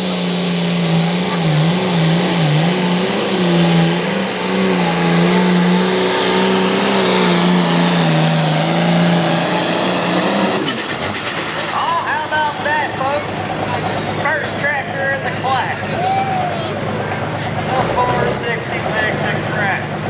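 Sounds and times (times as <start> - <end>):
pulling tractor diesel engine roaring: 0.0 - 20.0.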